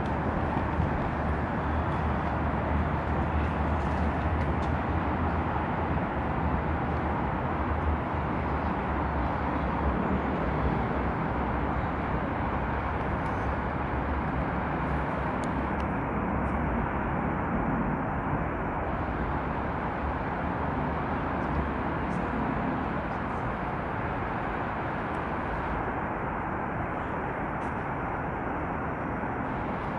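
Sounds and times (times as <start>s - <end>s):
distant city traffic rumble: 0.0s - 29.9s.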